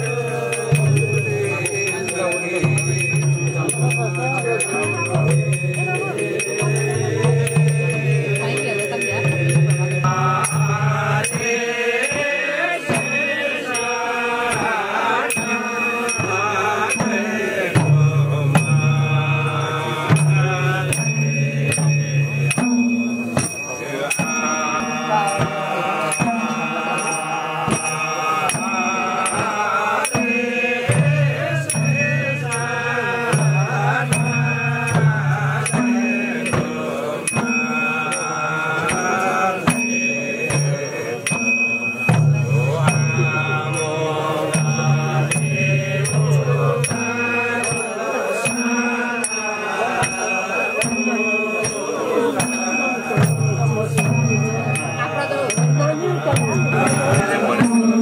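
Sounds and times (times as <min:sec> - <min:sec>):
chanting voices: 0:00.0 - 0:58.0
steady beat: 0:00.0 - 0:58.0.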